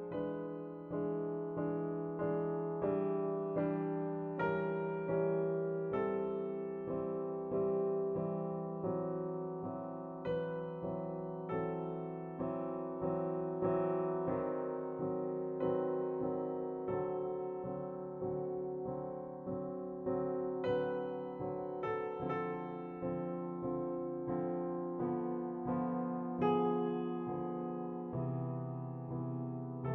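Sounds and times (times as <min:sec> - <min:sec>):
slow piano music: 0:00.0 - 0:29.9.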